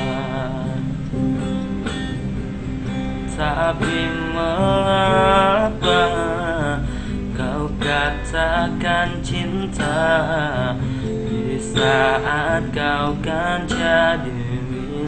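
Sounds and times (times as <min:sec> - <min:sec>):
young man singing pop song: 0:00.0 - 0:02.2, 0:03.2 - 0:15.0
acoustic guitar: 0:00.0 - 0:15.0.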